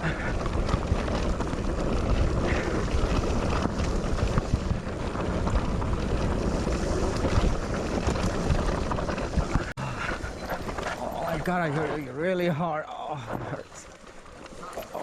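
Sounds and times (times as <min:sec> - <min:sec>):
rumbling trail noise: 0:00.0 - 0:15.0.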